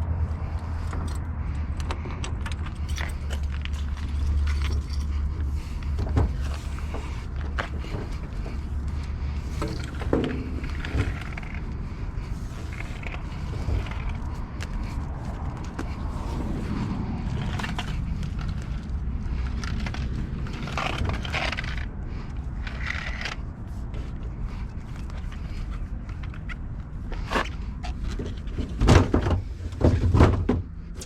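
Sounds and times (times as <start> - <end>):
bus diesel engine rumbling: 0.0 - 31.0
crunching and scraping noises: 0.0 - 31.0.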